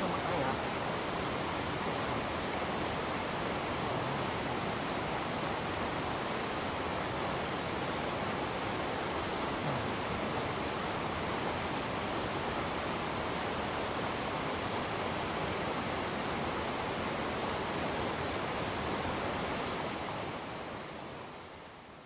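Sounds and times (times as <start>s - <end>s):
river water rushing over rocks: 0.0s - 21.4s.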